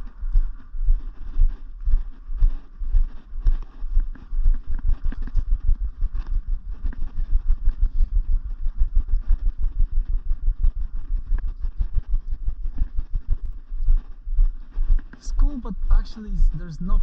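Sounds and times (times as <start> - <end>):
wind buffeting on microphone: 0.0 - 15.8.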